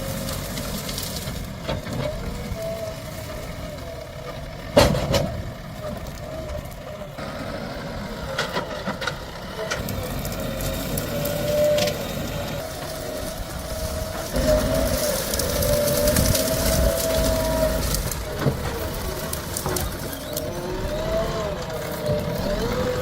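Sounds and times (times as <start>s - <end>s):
diesel engine whining under work: 0.0s - 23.0s.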